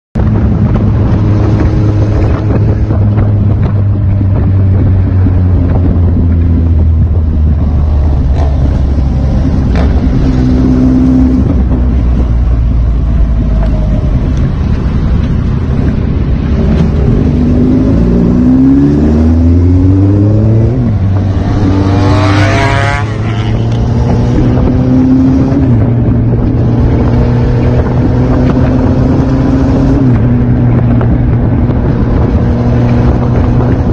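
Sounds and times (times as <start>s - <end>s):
motorcycle engine accelerating: 0.2s - 33.9s
wind noise on microphone: 0.2s - 33.9s.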